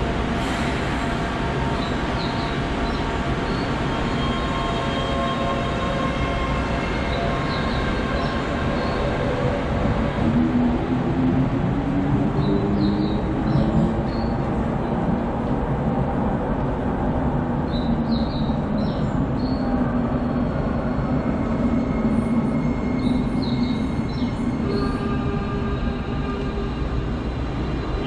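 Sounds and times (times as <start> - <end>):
rumble of train wheels on rail: 0.0 - 28.0.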